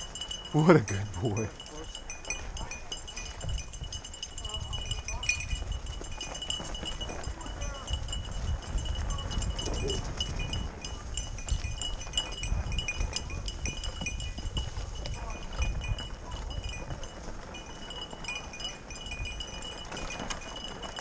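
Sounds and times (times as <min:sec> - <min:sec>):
bike rolling on dirt rumble: 0:00.0 - 0:00.5, 0:01.5 - 0:21.0
small bell jingling: 0:00.0 - 0:21.0.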